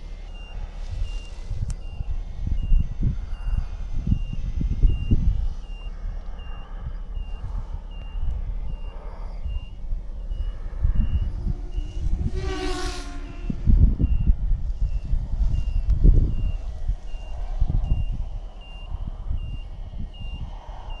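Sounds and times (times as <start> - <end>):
low rumbling on microphone: 0.0 - 21.0
rush of noise with rising hum: 0.0 - 21.0
electronic beeper beeping: 0.2 - 21.0.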